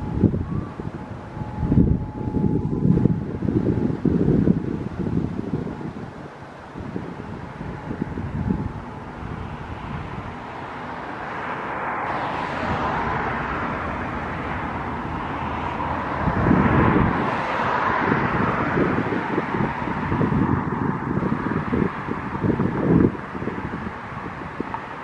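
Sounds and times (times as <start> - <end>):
diesel locomotives approaching: 0.0 - 25.0
wind buffeting microphone: 0.0 - 25.0.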